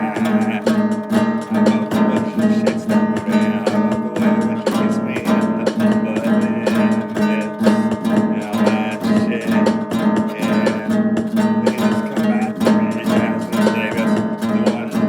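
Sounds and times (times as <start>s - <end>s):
acoustic guitar strummed and plucked: 0.0s - 15.0s.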